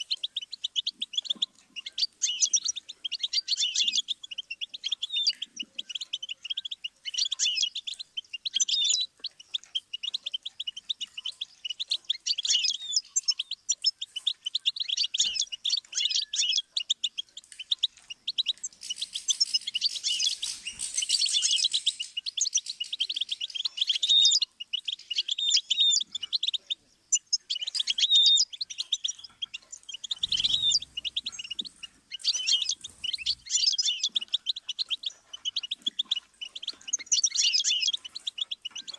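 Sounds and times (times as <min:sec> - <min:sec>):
bird twittering: 0:00.0 - 0:38.9.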